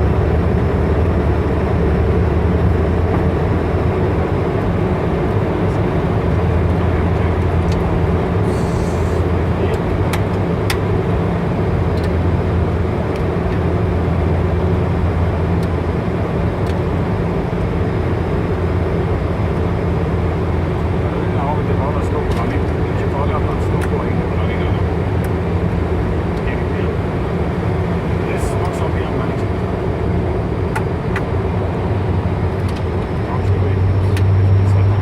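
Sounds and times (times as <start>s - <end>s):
airplane cabin engine drone: 0.0s - 35.0s.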